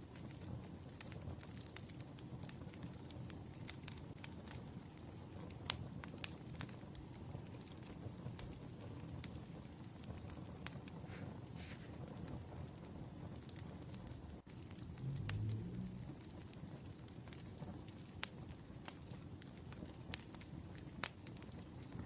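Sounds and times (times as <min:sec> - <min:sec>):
fire low rumble: 0:00.0 - 0:22.0
wood fire crackling and popping: 0:00.0 - 0:22.0.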